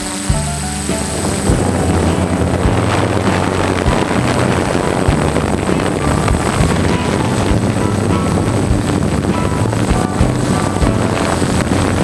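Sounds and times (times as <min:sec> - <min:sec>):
drone propellers whirring: 0:00.0 - 0:12.0
wind thumps on microphone: 0:00.0 - 0:12.0.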